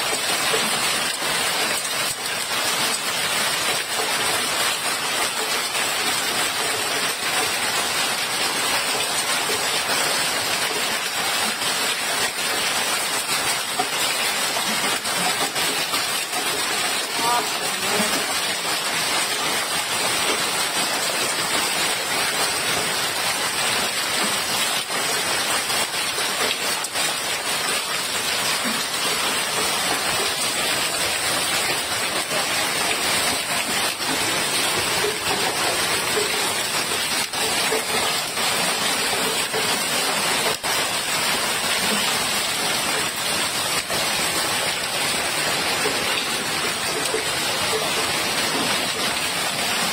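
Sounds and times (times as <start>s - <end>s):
hailstones pelting down: 0.0s - 49.9s.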